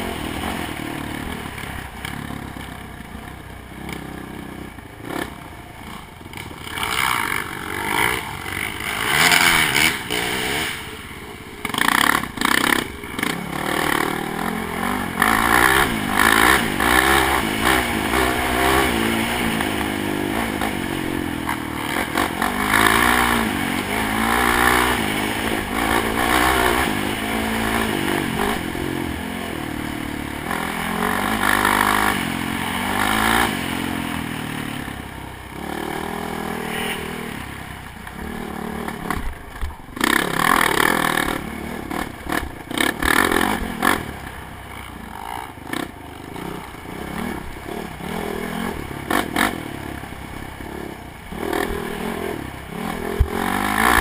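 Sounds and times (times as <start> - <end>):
atv engine revving: 0.0 - 54.0
atv rattling over bumps: 0.0 - 54.0.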